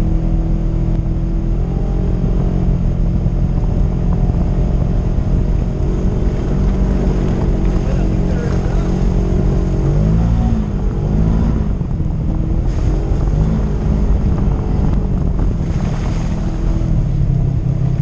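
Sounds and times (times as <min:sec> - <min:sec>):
vehicle engine revving under load: 0:00.0 - 0:18.0.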